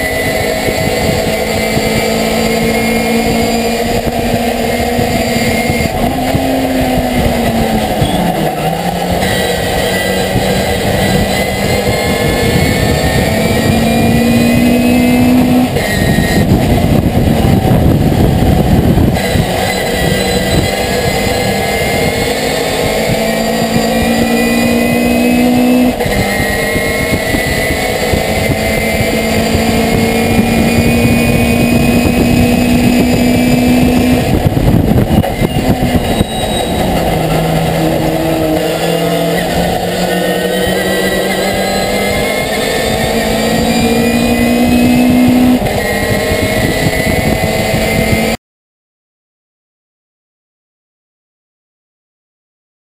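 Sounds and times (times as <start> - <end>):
truck engine revving: 0.0 - 48.4.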